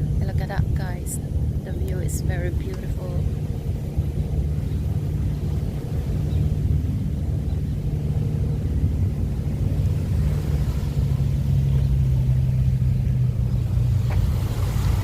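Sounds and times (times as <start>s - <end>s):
low engine drone: 0.0s - 15.0s
low rumble: 0.0s - 15.0s.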